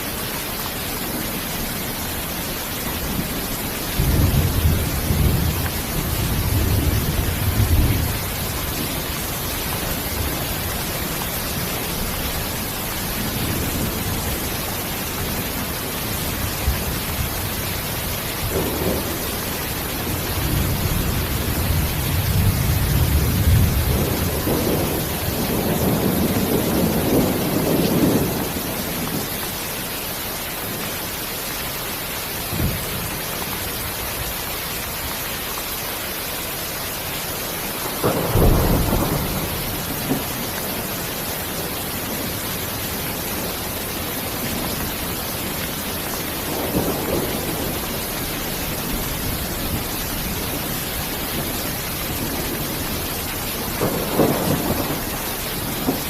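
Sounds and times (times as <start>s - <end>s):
steady rain hiss: 0.0s - 56.0s
rolling thunder: 3.0s - 29.3s, 32.5s - 33.2s, 37.8s - 56.0s.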